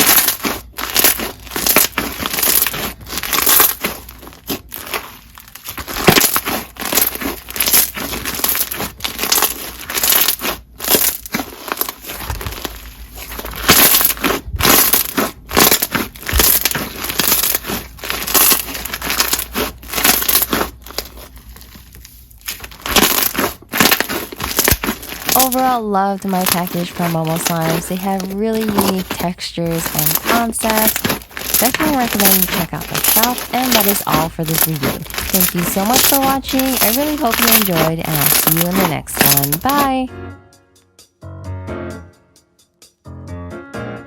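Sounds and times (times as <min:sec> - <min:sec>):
crunchy slime squeezed by hand: 0:00.0 - 0:40.0.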